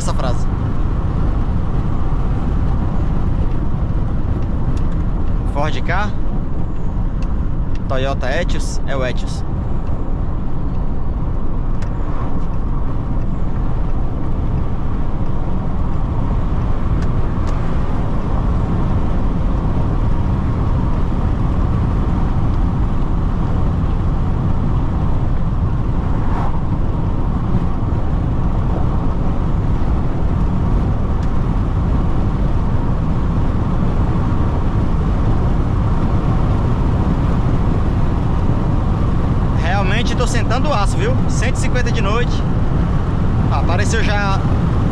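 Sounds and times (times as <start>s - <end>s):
road and wind noise in car: 0.0s - 44.9s.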